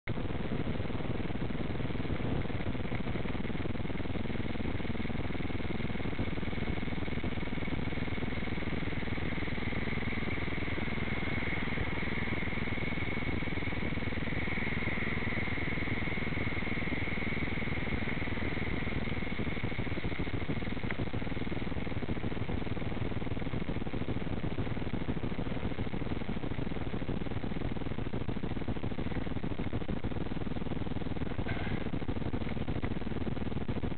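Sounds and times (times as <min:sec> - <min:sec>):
faint steady whine: 0:00.0 - 0:33.9.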